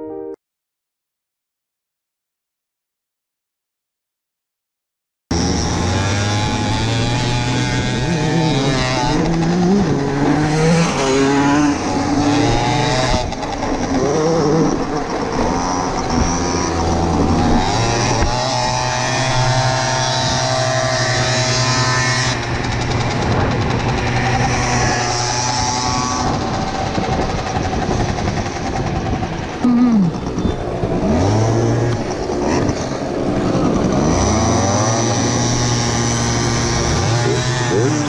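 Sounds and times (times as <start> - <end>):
scooter engines revving: 5.3 - 38.0.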